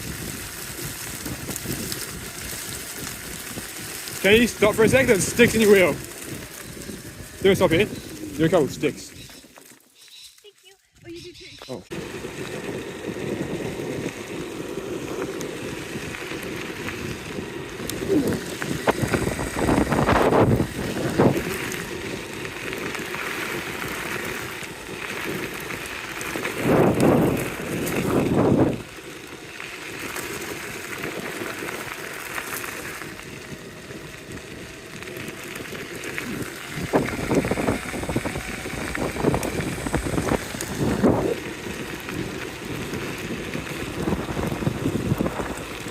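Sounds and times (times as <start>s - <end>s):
wind on microphone: 0.0s - 9.2s, 11.2s - 29.0s, 33.0s - 45.9s
skateboard wheels rumbling on dirt: 0.0s - 45.9s.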